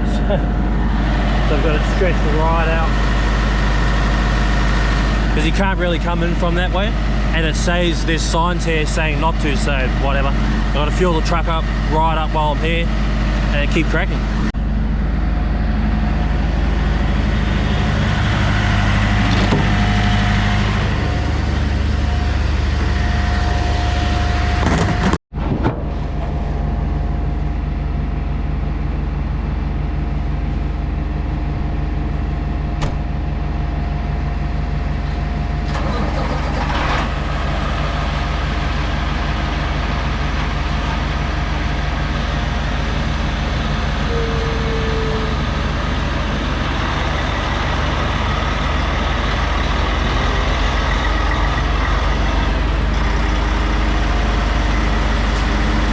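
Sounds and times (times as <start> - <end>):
diesel truck engine idling: 0.0 - 25.2, 25.8 - 55.9.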